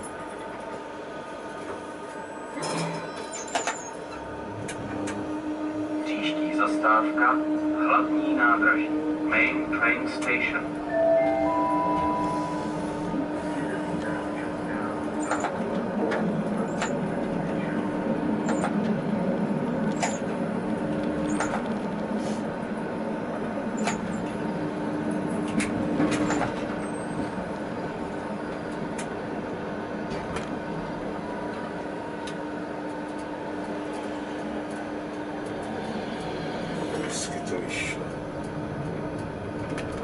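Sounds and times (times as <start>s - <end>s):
tram motors and wheels rumbling: 0.0s - 40.0s.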